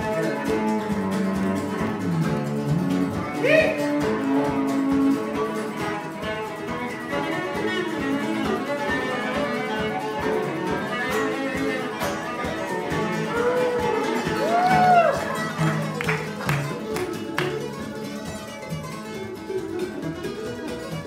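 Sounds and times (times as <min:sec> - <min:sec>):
acoustic guitar: 0:00.0 - 0:21.0
cello: 0:00.0 - 0:21.0
mandolin: 0:00.0 - 0:21.0.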